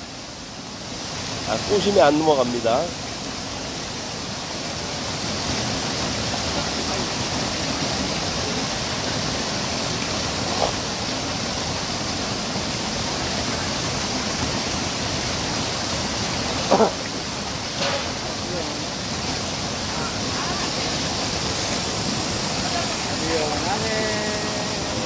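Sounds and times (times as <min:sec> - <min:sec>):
water pouring over rock ledge: 0:00.1 - 0:25.0.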